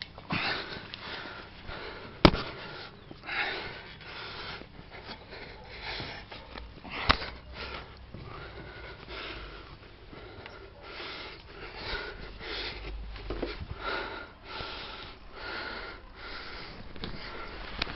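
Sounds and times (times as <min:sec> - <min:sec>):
person sniffing and breathing heavily: 0:00.3 - 0:17.8.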